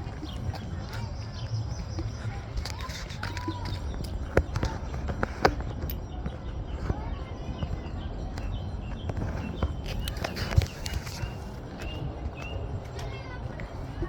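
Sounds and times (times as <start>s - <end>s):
footsteps on pavement: 0.0s - 14.0s.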